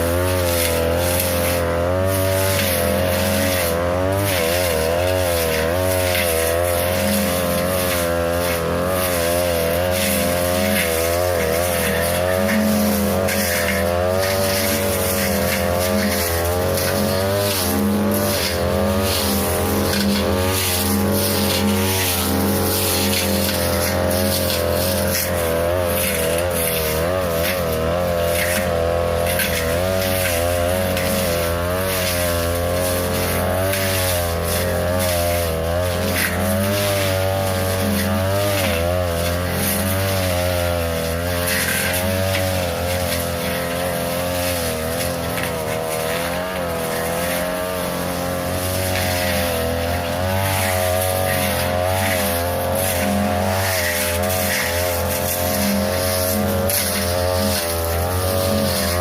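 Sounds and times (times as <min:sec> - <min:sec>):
brush cutter engine revving: 0:00.0 - 0:59.0
stems crackling against blade: 0:00.1 - 0:59.0.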